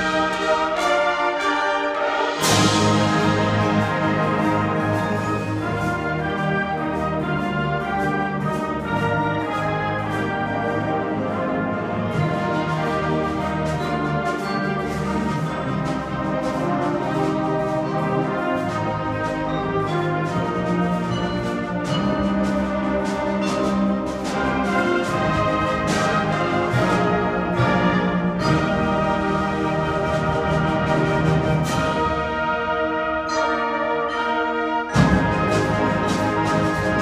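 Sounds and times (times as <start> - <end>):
wind band sustained chords: 0.0 - 37.0.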